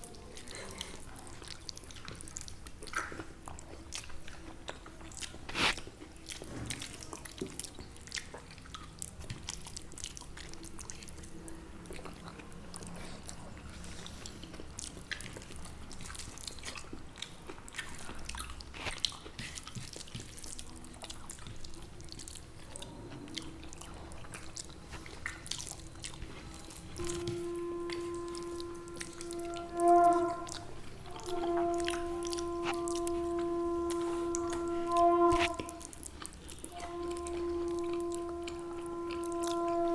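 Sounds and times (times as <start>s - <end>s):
people chewing: 0.0s - 39.9s.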